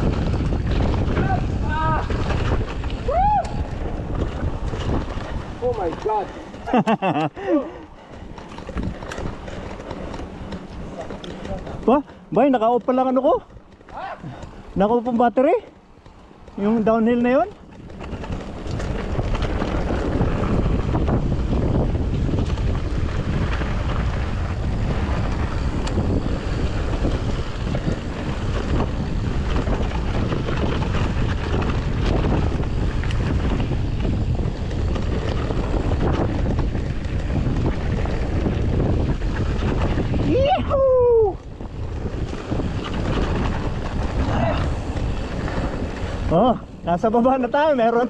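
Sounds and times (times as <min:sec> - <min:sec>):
bike tyre and frame rattle: 0:00.0 - 0:48.0
wind buffeting microphone: 0:00.0 - 0:48.0.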